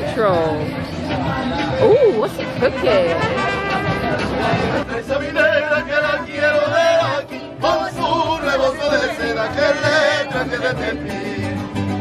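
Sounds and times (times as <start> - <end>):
singers singing with vibrato: 1.4 - 12.0.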